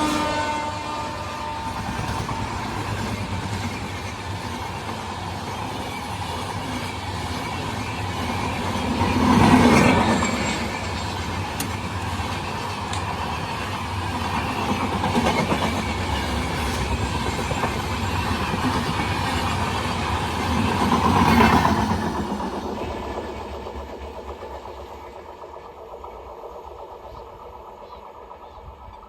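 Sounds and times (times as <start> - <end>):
train rumble: 0.0 - 29.0
train wheels clattering: 1.3 - 29.0.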